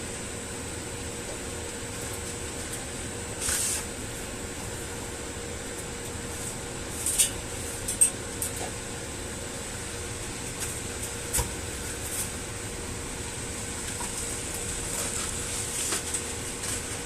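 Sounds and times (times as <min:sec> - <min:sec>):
welding hissing hum: 0:00.0 - 0:17.0.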